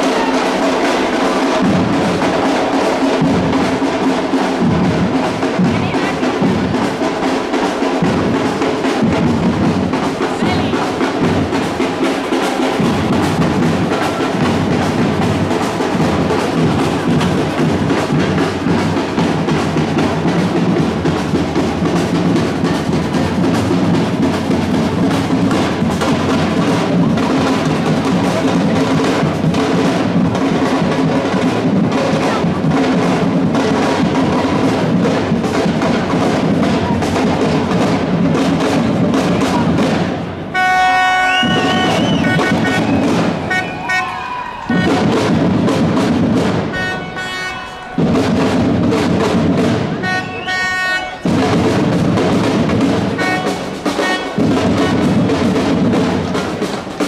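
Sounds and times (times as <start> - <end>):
drum-heavy band music: 0.0 - 57.0.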